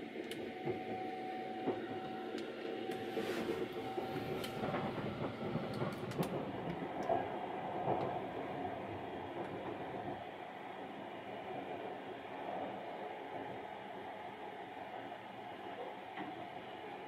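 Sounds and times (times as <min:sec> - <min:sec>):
train wheels and carriage rumbling: 0:00.0 - 0:15.1.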